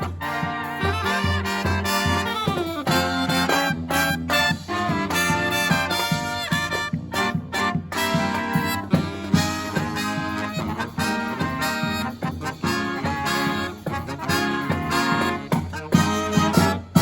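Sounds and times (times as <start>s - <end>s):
brass marching band playing: 0.0s - 17.0s
steady drum beat: 0.0s - 17.0s.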